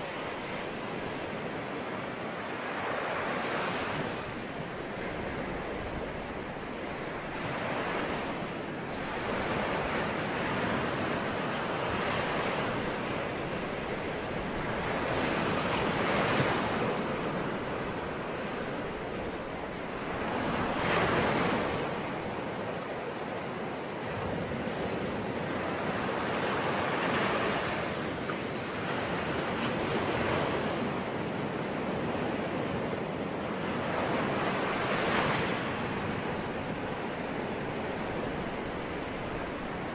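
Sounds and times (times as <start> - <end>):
ocean waves breaking on shore: 0.0 - 39.9
wind: 0.0 - 39.9.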